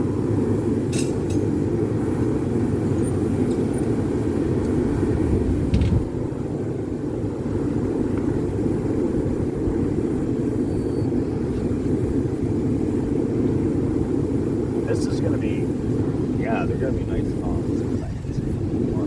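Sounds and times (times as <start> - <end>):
gas forge burner roaring: 0.0 - 19.0.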